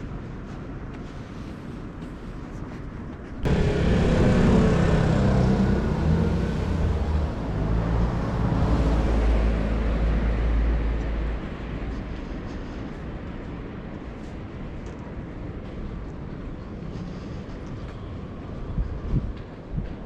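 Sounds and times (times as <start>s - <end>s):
vehicle engine and tyre noise: 0.0s - 20.0s.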